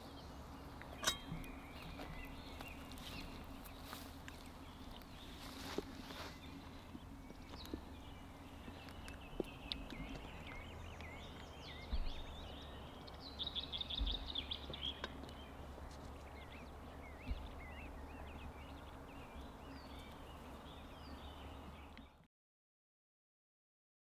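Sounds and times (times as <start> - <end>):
low steady rumble: 0.0 - 22.2
small birds chirping: 0.0 - 22.3.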